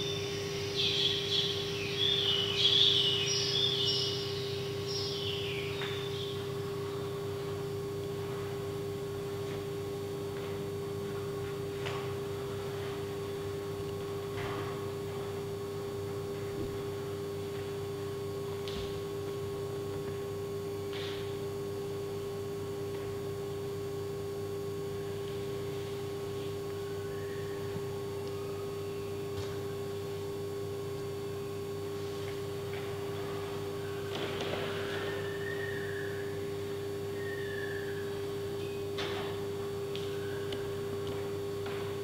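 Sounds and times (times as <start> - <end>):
steady tonal hum: 0.0 - 42.0.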